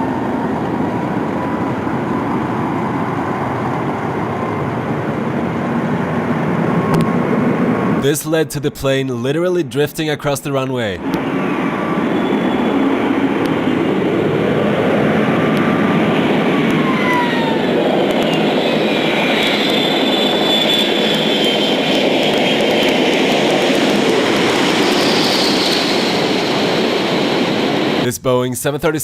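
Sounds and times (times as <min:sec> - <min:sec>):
jet engine whine sliding down: 0:00.0 - 0:28.2
jet engines roaring: 0:00.0 - 0:28.2.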